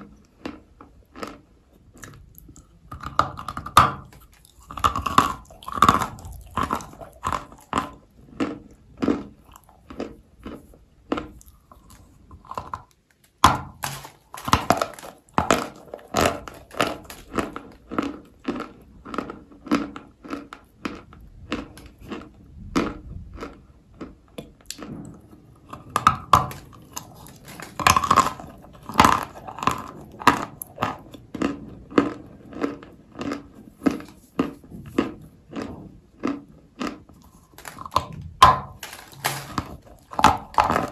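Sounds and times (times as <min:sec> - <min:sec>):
clay being chewed with crunches: 0:00.0 - 0:40.9.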